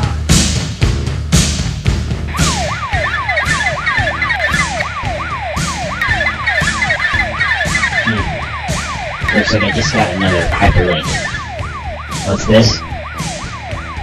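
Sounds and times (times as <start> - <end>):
police siren yelp: 2.3 - 14.0
sharp hits: 2.3 - 14.0.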